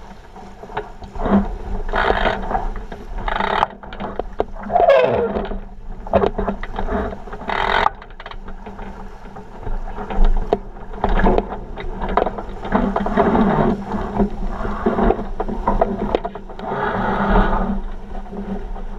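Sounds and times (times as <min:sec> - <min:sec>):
water splashing against boat hull: 0:00.0 - 0:18.9
wind buffeting microphone: 0:00.0 - 0:18.9.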